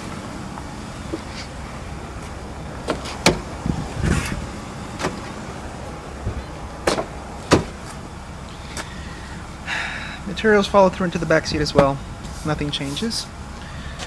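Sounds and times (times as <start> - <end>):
car air conditioning hum: 0.0 - 14.0.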